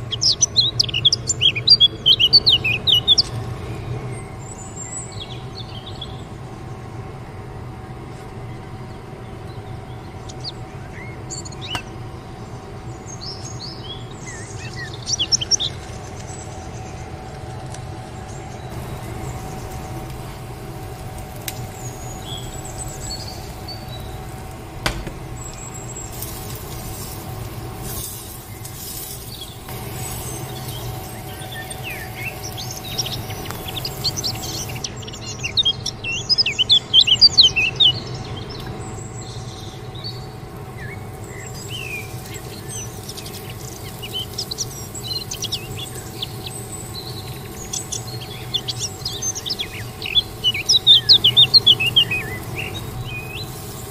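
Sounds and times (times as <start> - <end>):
small birds twittering: 0.0 - 53.9
steady low hum: 0.0 - 53.9.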